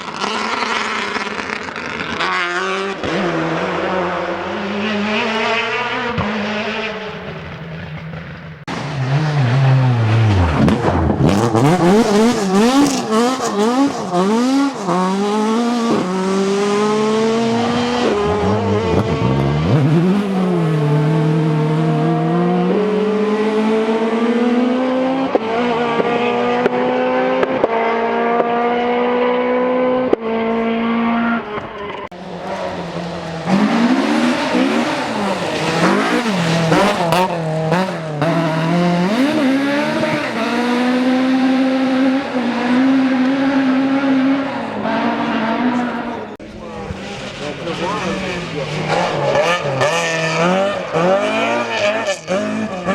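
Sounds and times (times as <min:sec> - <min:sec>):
rally car engine revving hard: 0:00.0 - 0:52.9.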